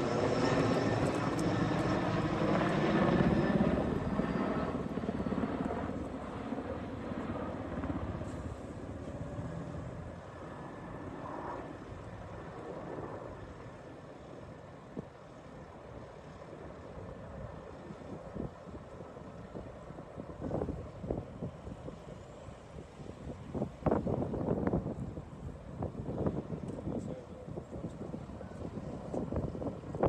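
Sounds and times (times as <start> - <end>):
helicopter flying over: 0.0 - 30.0.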